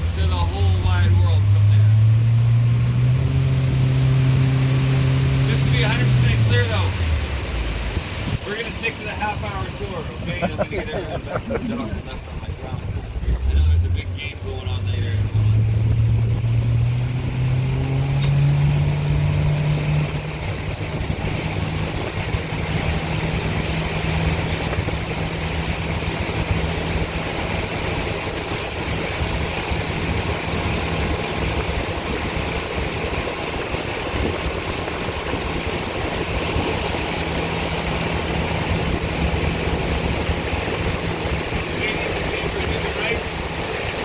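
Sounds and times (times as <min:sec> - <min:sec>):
boat engine running: 0:00.0 - 0:44.0
water and wind hiss: 0:00.0 - 0:44.0.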